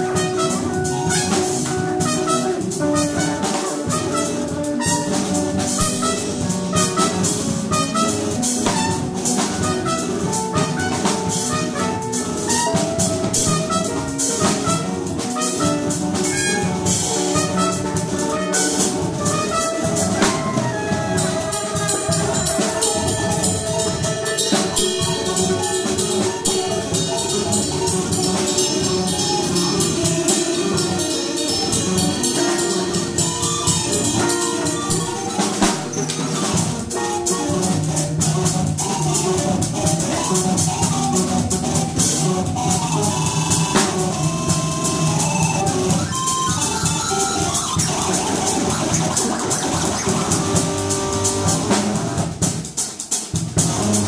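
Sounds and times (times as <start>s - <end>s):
drum kit played busily: 0.0s - 54.0s
held pitched tones: 4.1s - 51.8s.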